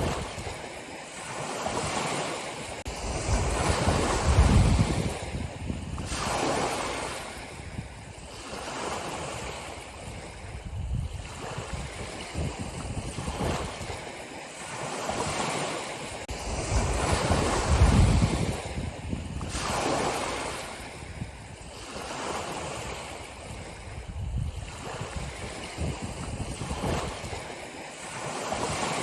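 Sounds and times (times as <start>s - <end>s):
wind buffeting microphone: 0.0s - 0.7s, 1.6s - 15.6s, 16.3s - 29.0s
ocean waves washing: 0.0s - 29.0s.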